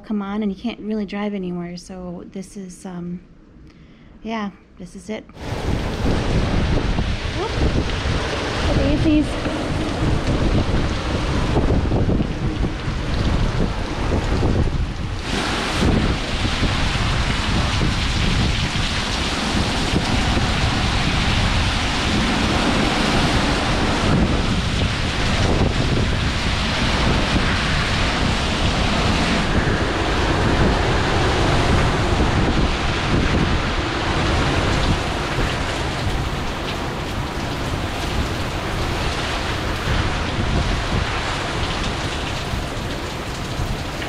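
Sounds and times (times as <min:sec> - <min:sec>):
gusting wind buffeting microphone: 0:05.4 - 0:44.0
heavy rain: 0:05.4 - 0:44.0.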